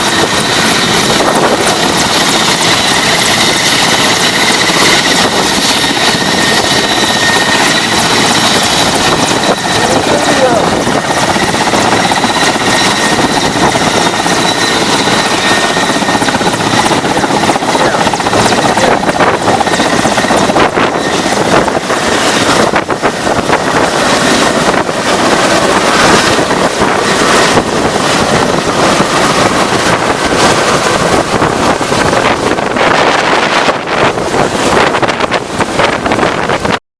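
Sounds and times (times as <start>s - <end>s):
helicopter rotor and engine: 0.0s - 36.8s
high whine: 0.0s - 36.8s
wind buffeting: 0.0s - 36.8s.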